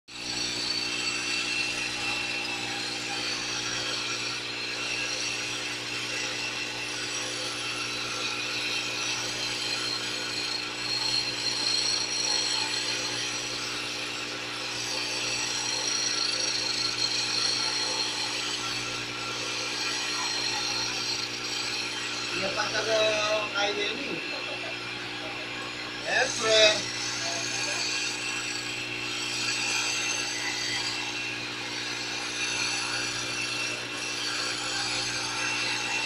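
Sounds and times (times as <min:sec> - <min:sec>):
tool scraping spinning wood: 0:00.2 - 0:36.0
wood lathe humming: 0:00.2 - 0:36.0.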